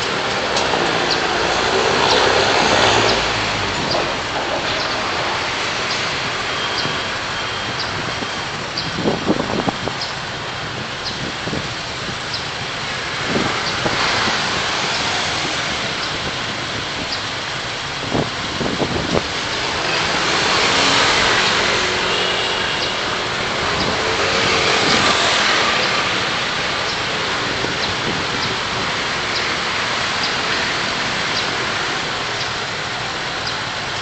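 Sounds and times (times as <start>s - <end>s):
car driving in traffic: 0.0s - 34.0s.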